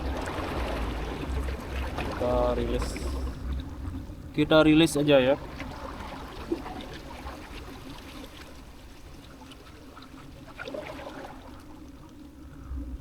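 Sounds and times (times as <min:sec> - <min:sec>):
faint water trickling and lapping: 0:00.0 - 0:13.0.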